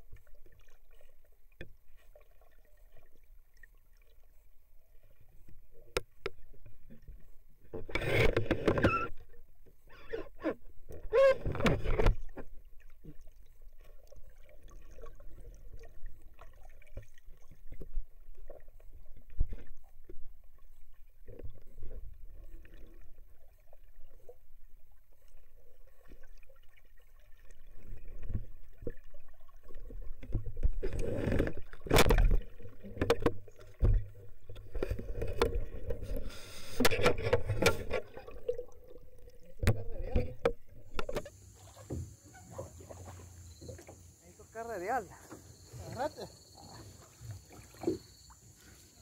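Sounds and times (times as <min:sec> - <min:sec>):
water sloshing and churning: 0:00.0 - 0:49.0.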